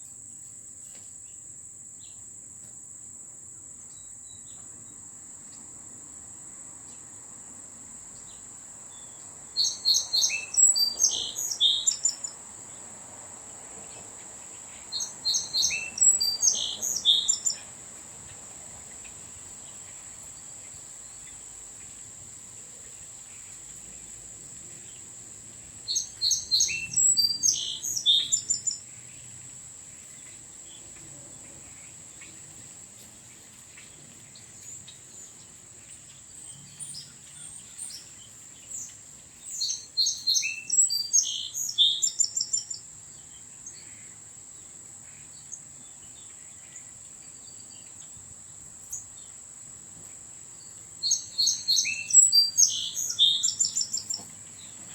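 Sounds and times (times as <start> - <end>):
insect trill: 0.0 - 54.9
songbird chirping: 0.8 - 2.8, 3.4 - 54.9.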